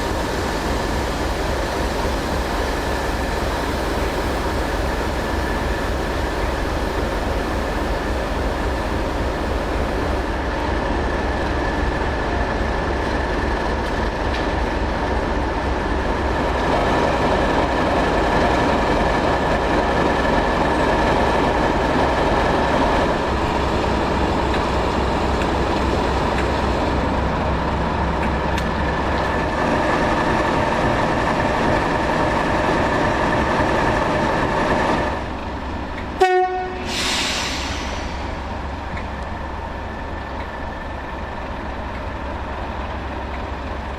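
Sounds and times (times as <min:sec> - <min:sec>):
diesel train engine drone: 0:00.0 - 0:43.9.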